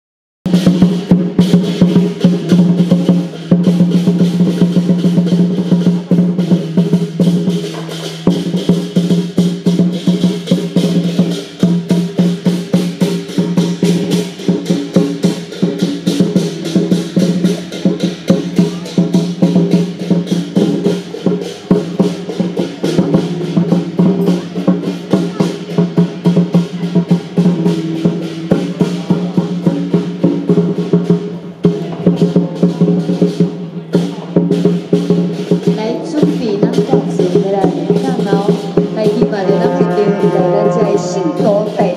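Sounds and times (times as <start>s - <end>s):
drum beating: 0.4s - 41.9s
cymbals crashing: 0.5s - 41.9s.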